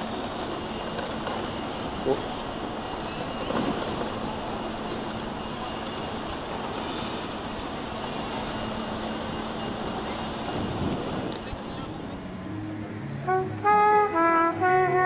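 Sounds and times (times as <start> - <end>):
passing public transport: 0.0 - 15.0
traffic: 0.0 - 15.0.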